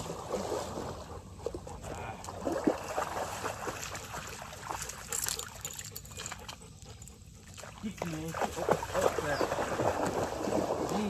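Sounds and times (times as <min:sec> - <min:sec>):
water splashing from swimming dog: 0:00.0 - 0:11.0.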